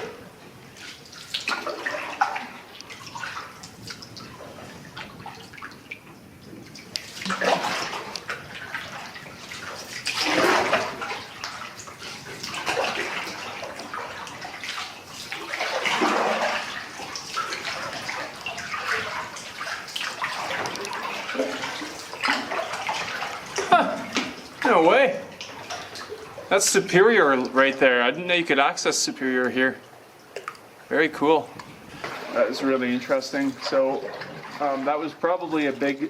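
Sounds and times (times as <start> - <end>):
paddle splashing in water: 0.0 - 27.6, 29.9 - 36.0.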